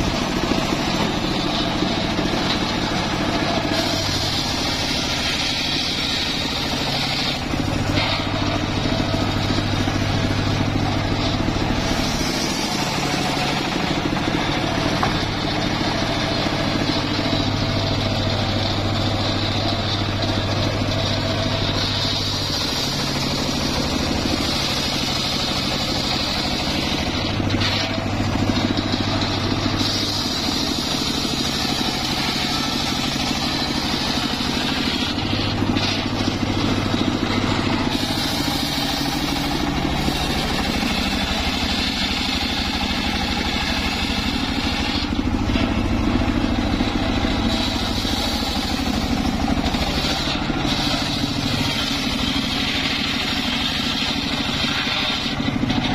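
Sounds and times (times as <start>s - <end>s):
saw blade hissing through wood: 0.0s - 45.7s, 46.3s - 55.8s
sawmill engine hum: 0.0s - 55.9s.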